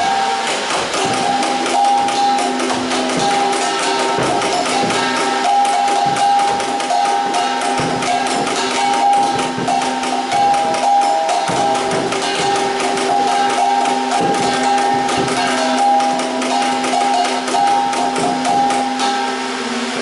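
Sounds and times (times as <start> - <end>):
melody over percussive beat: 0.0 - 19.8.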